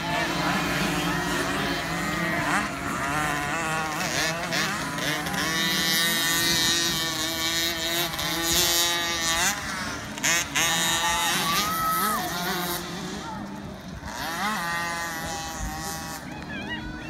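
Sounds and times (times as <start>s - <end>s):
two-stroke motocross bikes racing: 0.0s - 17.0s.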